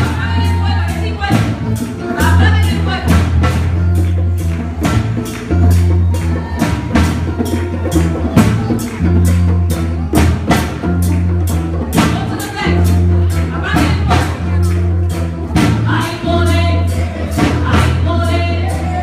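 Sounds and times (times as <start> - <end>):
bass line: 0.0 - 19.0
drum kit beat: 0.0 - 19.0.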